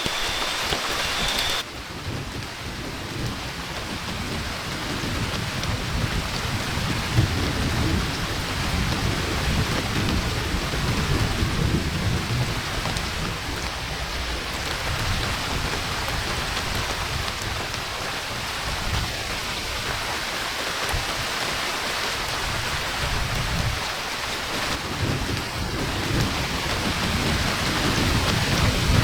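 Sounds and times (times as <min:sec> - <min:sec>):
low rolling thunder: 0:00.0 - 0:20.1, 0:24.6 - 0:29.0
heavy rain falling: 0:00.0 - 0:29.0.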